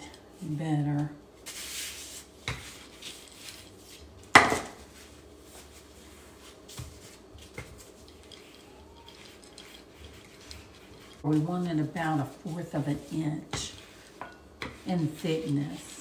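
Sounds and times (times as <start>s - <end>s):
rolling pin rolling dough: 0.4s - 16.0s.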